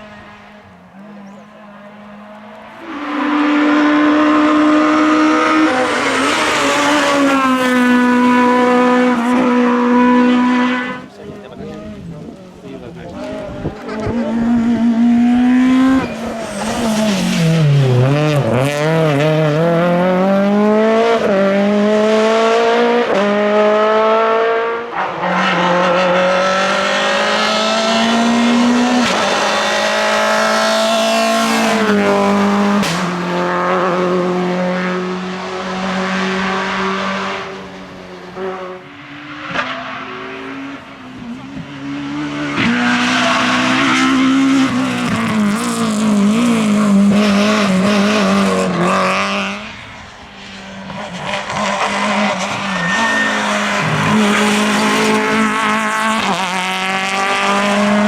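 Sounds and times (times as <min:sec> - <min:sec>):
rally car engine revving hard: 0:02.0 - 0:50.0, 0:50.8 - 0:58.0.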